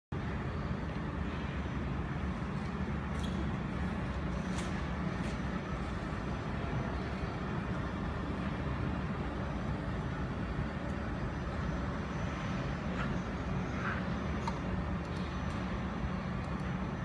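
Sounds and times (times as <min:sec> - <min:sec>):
machinery humming: 0:00.1 - 0:17.0.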